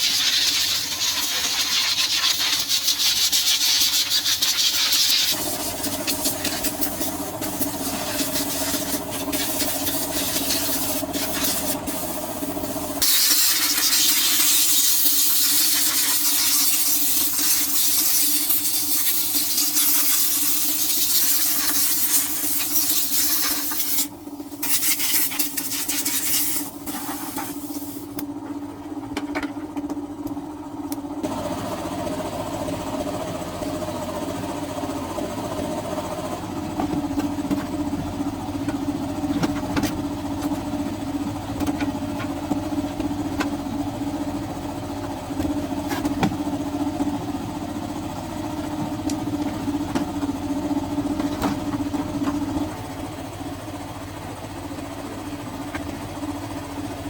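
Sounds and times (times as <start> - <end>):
engine running: 4.4 - 57.0.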